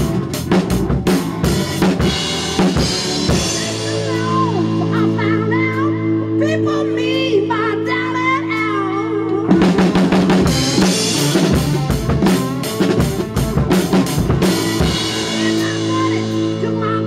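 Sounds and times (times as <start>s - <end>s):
drum kit driving rhythm: 0.0s - 6.2s, 7.1s - 17.0s
rock singing: 0.0s - 17.0s.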